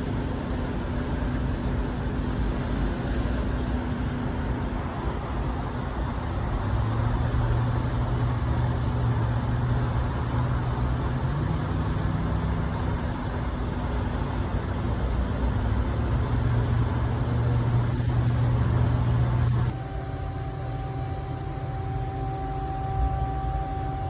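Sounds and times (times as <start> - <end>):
machine running steadily: 0.0 - 24.0.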